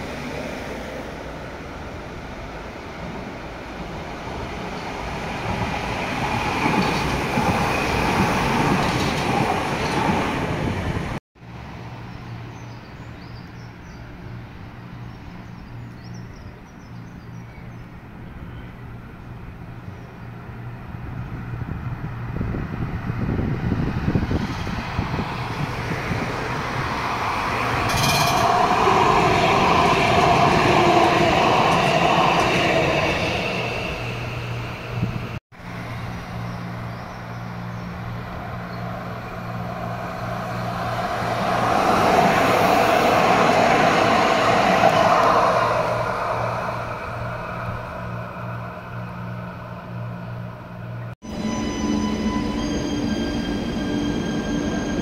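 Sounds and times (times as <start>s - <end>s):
light-rail train passing: 0.0s - 55.0s.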